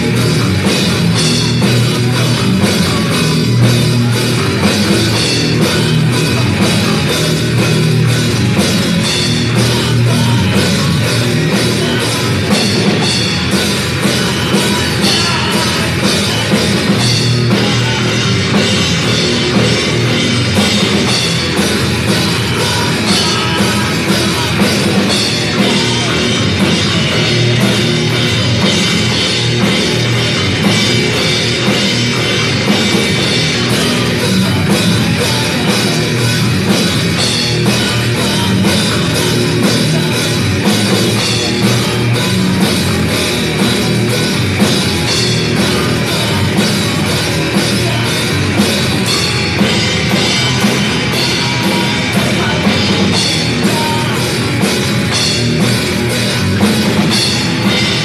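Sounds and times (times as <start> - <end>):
drum kit fast rhythm: 0.0 - 58.0
electric guitar: 0.0 - 58.0.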